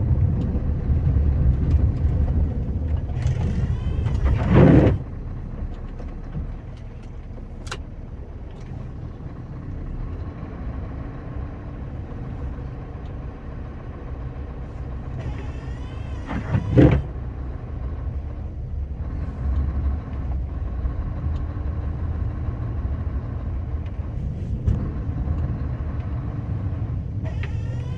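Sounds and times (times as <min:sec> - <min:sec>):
diesel truck engine running hard: 0:00.0 - 0:27.9.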